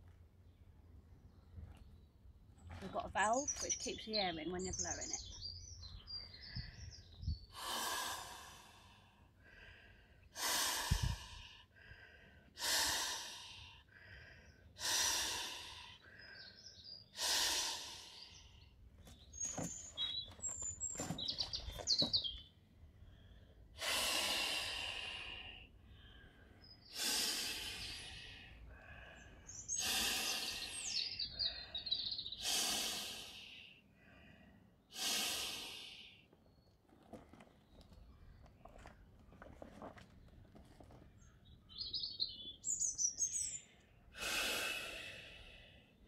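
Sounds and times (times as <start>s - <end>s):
birds chirping: 0.3s - 8.6s, 14.2s - 23.5s, 25.9s - 46.0s.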